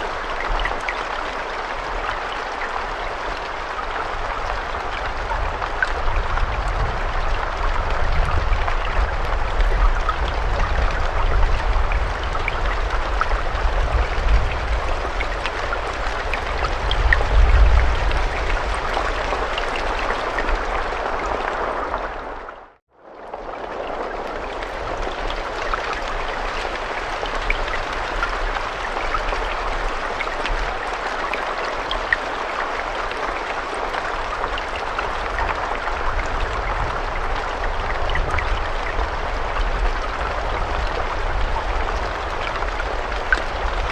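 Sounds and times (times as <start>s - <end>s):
rain patter: 0.0s - 43.9s.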